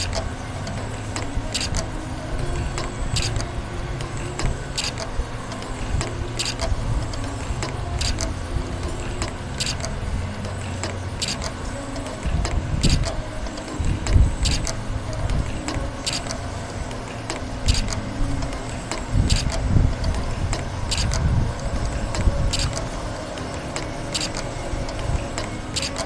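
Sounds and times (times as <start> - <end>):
sharp high clicks: 0.0 - 26.0
spring machine humming: 0.0 - 26.0.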